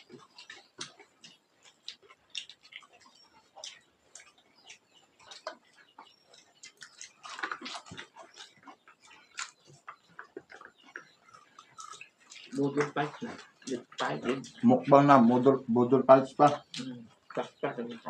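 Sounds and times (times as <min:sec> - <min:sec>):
chewing and lip smacks: 0:00.0 - 0:14.9, 0:16.3 - 0:18.0.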